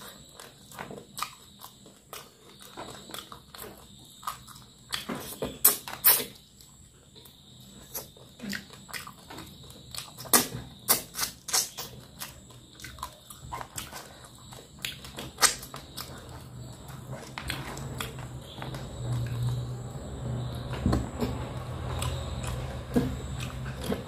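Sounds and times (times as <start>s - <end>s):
wet chewing and lip smacking: 0.0s - 19.7s, 21.2s - 24.0s.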